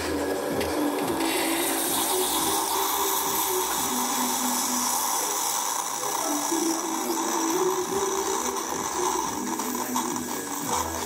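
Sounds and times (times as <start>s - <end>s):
coffee machine pump humming: 0.0s - 11.0s
even hiss: 0.0s - 11.0s.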